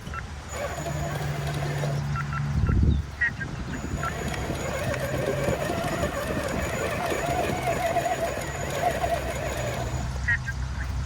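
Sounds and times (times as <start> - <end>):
drivetrain clatter of ticks: 0.0 - 11.0
rc car motor whine: 0.0 - 11.0.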